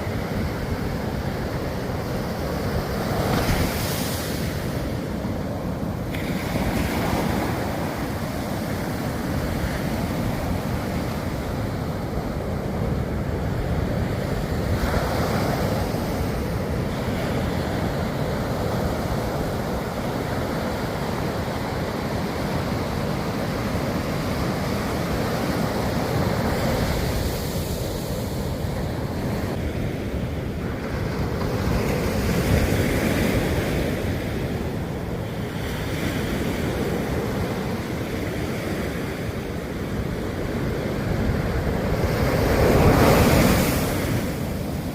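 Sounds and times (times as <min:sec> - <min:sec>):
waves breaking: 0:00.0 - 0:44.9.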